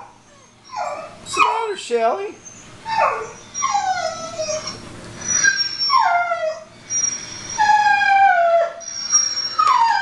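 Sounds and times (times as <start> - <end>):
dog whining: 0.0 - 10.0.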